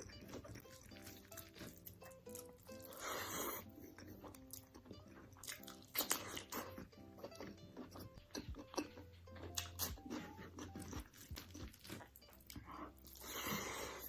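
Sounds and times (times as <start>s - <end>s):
chewing with crunches: 0.0s - 14.0s
soft background music: 0.0s - 14.0s.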